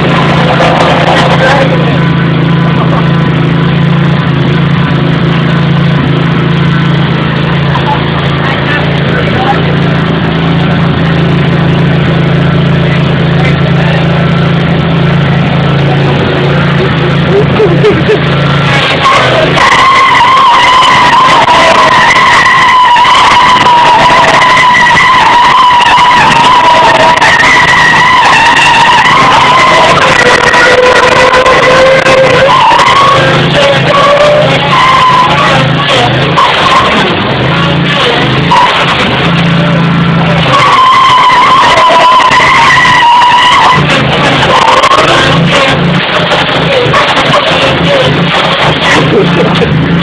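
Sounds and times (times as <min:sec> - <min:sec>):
lawnmower engine running: 0:00.0 - 0:50.0.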